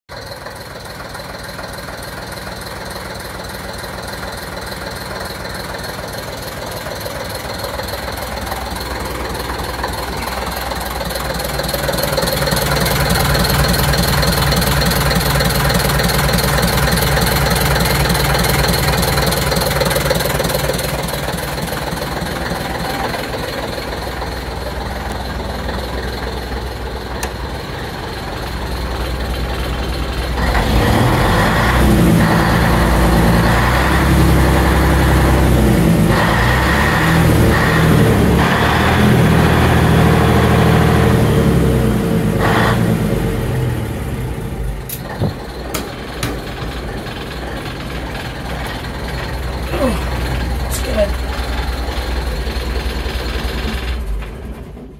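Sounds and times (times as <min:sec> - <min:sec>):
diesel bus engine idling: 0:00.1 - 0:54.9.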